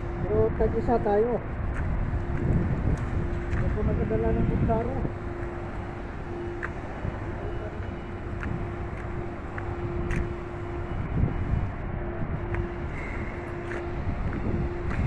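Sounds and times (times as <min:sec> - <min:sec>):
faint steady hum: 0:00.0 - 0:15.0
wind on microphone: 0:00.0 - 0:15.0.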